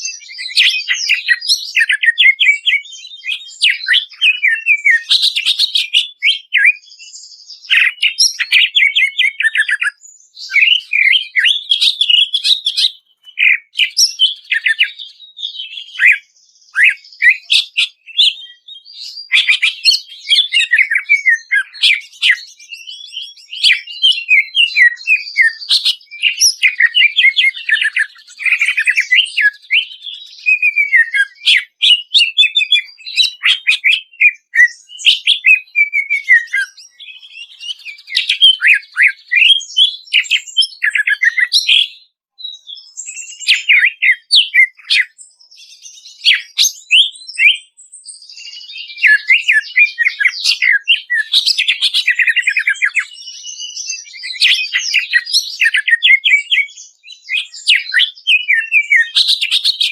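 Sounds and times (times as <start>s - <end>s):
bird singing trills and whistles: 0.0s - 59.9s.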